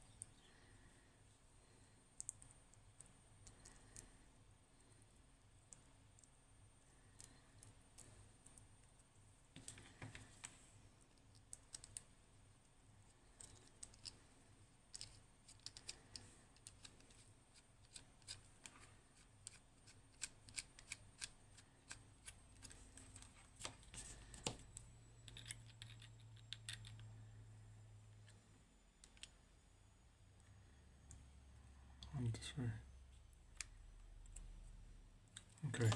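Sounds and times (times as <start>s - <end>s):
faint low hum: 0.0s - 35.9s.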